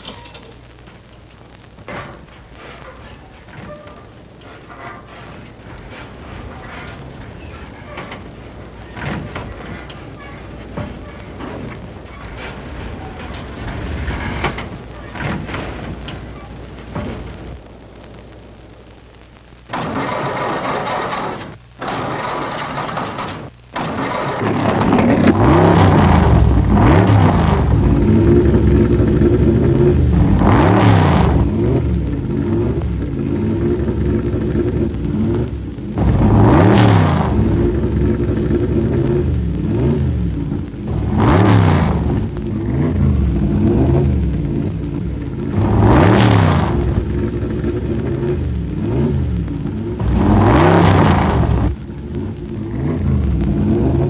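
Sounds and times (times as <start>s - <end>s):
racing car engines revving: 1.6s - 18.7s, 19.7s - 54.0s.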